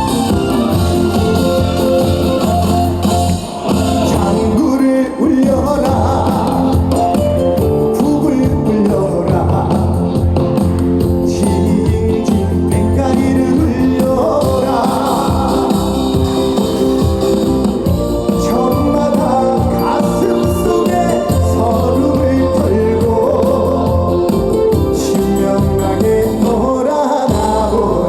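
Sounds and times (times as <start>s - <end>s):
live band with bass and beat: 0.0s - 28.0s
person singing: 0.9s - 28.0s.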